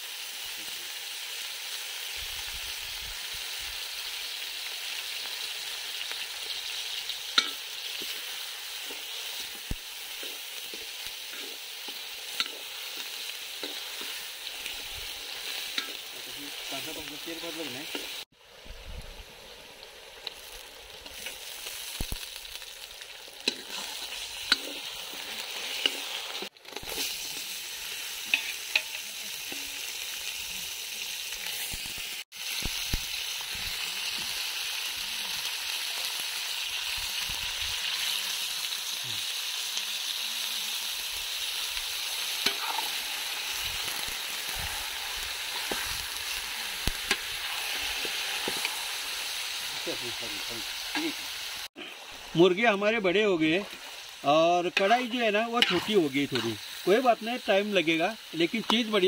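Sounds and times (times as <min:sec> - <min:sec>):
chicken sizzling in hot oil: 0:00.0 - 0:59.0
onions sizzling in oil: 0:00.0 - 0:59.0.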